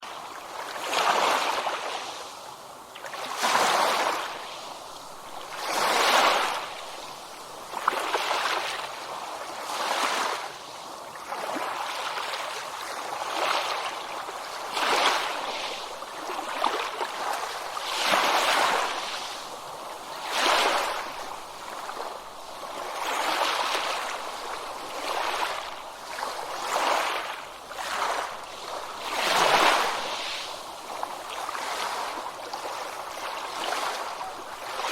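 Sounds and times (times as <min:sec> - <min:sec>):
small ocean waves washing in: 0:00.0 - 0:34.9.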